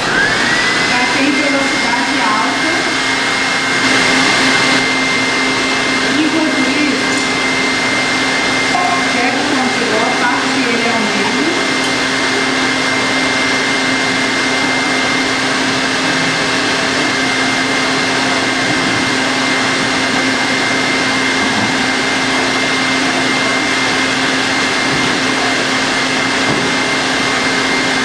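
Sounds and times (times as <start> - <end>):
stand mixer whirring: 0.0 - 28.0.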